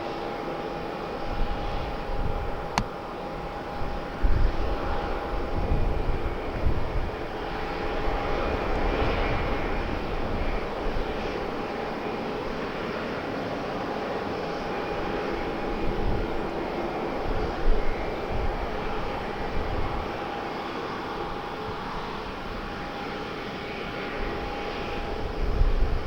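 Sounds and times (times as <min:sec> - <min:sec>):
aircraft engines running: 0:00.0 - 0:26.0
wind buffeting microphone: 0:01.2 - 0:11.8, 0:14.8 - 0:26.0.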